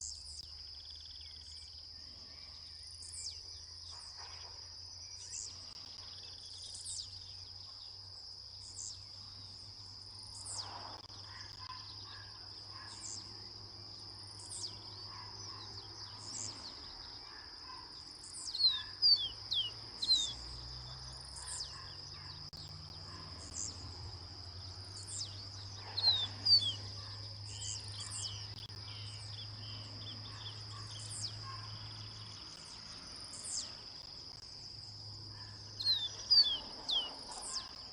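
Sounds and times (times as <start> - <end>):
high insect drone: 0.0 - 37.9.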